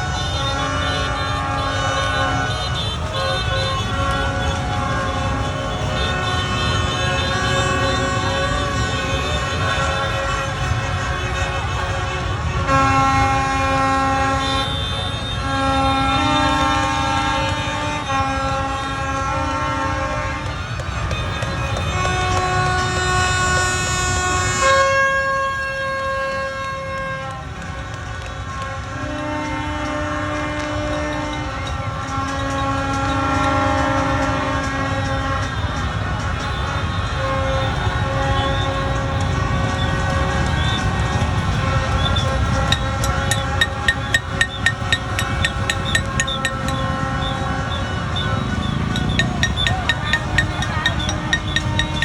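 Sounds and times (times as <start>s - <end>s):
motorbike engines rumbling: 0.0s - 24.6s, 27.3s - 52.0s
many horns sounding: 0.0s - 52.0s.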